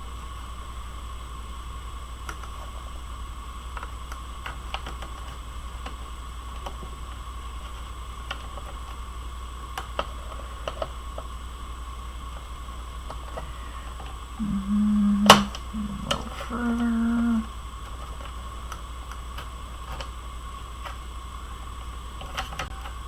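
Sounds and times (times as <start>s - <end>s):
electrical hum and hiss: 0.0s - 23.0s.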